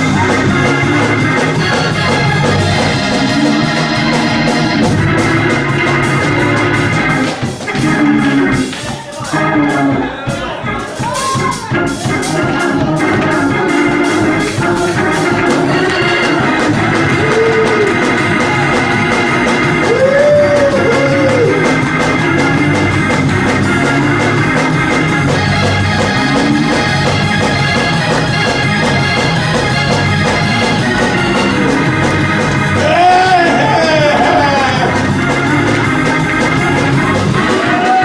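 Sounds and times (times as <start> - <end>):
church praise music: 0.0 - 38.0
drums beating: 0.0 - 38.0
organ: 0.0 - 38.0.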